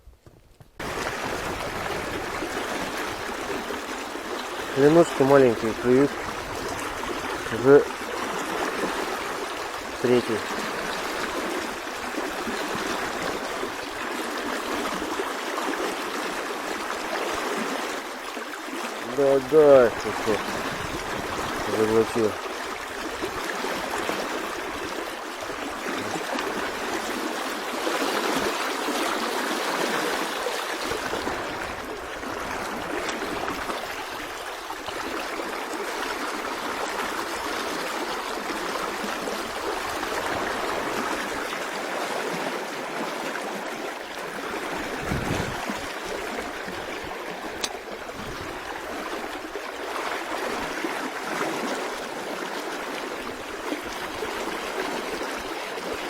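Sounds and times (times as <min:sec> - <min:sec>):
river rushing over stones: 0:00.8 - 0:56.0.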